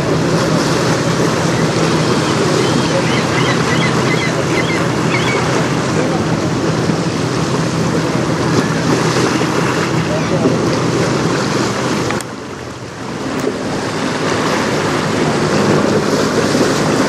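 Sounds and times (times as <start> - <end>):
choppy river water: 0.0 - 17.0
low engine hum: 0.0 - 17.0
wind buffeting microphone: 0.0 - 17.0.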